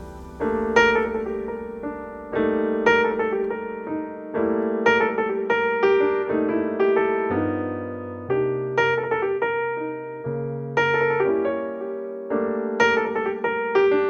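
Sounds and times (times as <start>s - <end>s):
calm piano music: 0.0s - 14.0s.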